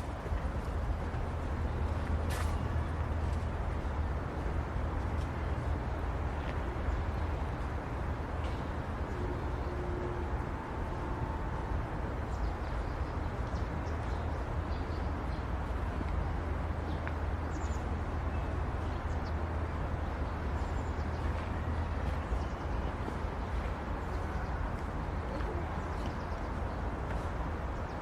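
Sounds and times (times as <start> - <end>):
low rumble of distant traffic: 0.0 - 28.0.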